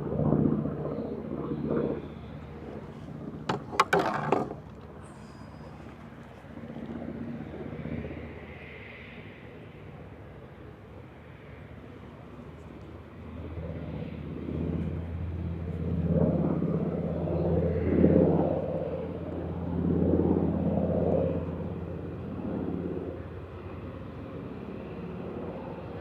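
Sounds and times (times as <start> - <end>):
propeller airplane engine drone: 0.0 - 26.0.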